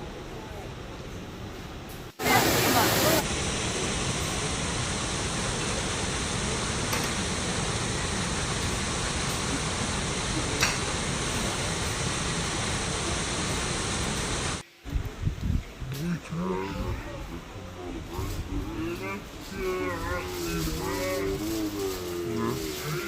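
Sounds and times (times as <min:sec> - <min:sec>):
falling water rushing: 0:02.0 - 0:15.1, 0:16.0 - 0:23.0.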